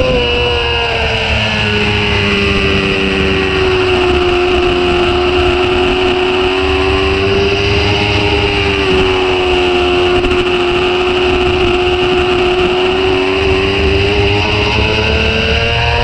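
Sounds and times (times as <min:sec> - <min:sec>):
motorcycle engine at high revs: 0:00.0 - 0:16.0
wind rush: 0:00.0 - 0:16.0.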